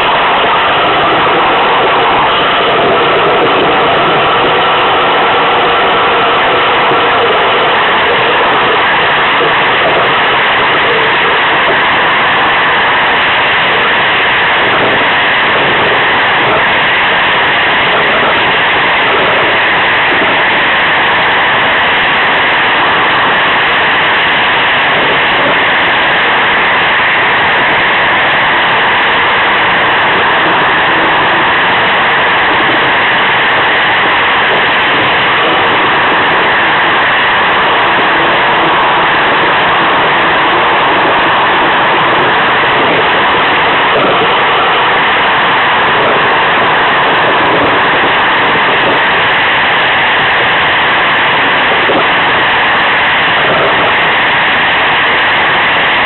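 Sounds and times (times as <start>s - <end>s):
iceboat rushing over ice: 0.0s - 56.0s.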